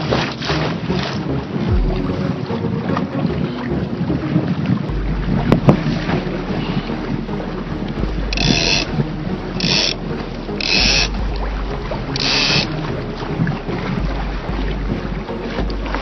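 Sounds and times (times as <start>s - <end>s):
water rushing past boat: 0.0s - 16.0s
wind buffeting microphone: 0.0s - 16.0s.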